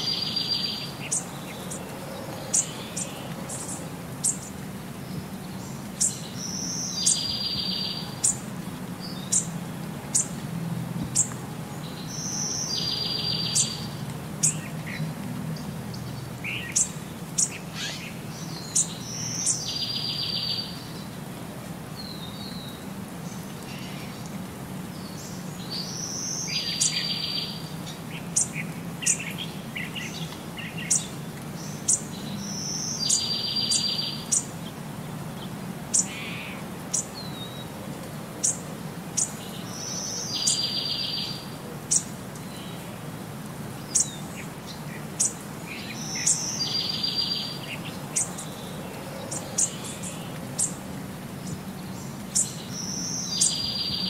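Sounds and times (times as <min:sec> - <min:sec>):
birds chirping: 0:00.0 - 0:10.4, 0:11.1 - 0:21.3, 0:24.9 - 0:37.8, 0:38.4 - 0:43.1, 0:43.7 - 0:54.0.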